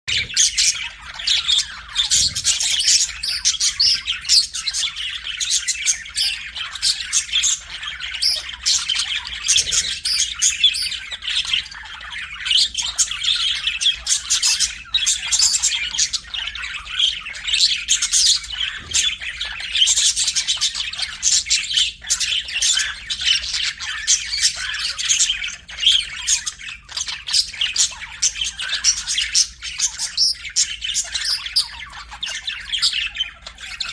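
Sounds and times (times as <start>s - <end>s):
budgerigars chirping and squawking: 0.1s - 33.9s.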